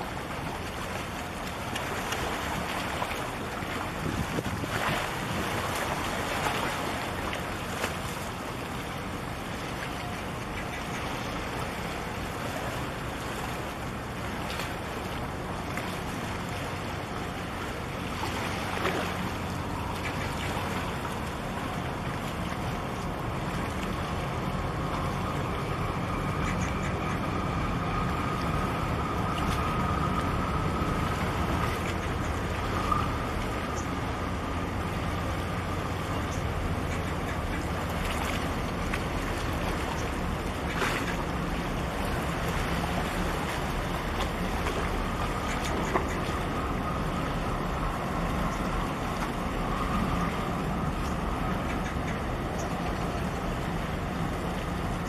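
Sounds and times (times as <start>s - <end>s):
ship engine drone: 0.0s - 55.0s
water noise: 0.0s - 55.0s
wind: 0.0s - 55.0s.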